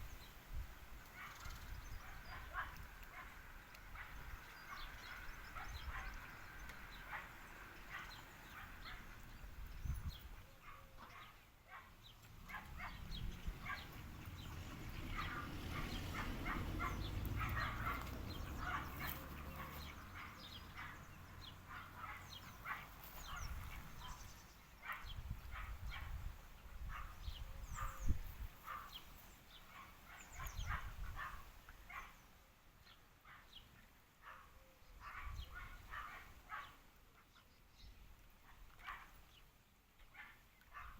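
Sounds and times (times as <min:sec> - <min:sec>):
dogs barking: 0:01.1 - 0:09.3, 0:10.5 - 0:32.2, 0:34.2 - 0:36.9, 0:38.5 - 0:39.2, 0:40.2 - 0:40.9.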